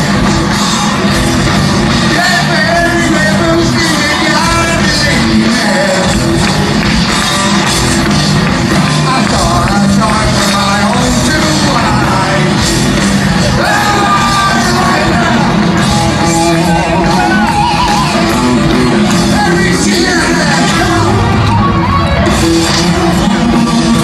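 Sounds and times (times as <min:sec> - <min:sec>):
live rock band playing: 0:00.0 - 0:24.0
singer's voice: 0:00.0 - 0:24.0.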